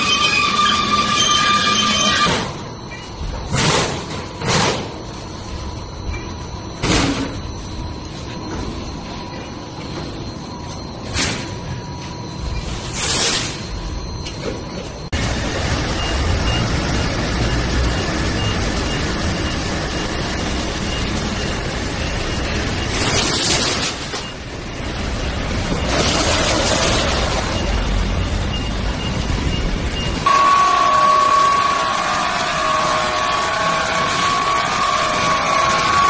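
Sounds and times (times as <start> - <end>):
machine whine: 0.0 - 36.0
metal processing machinery running: 0.0 - 36.0.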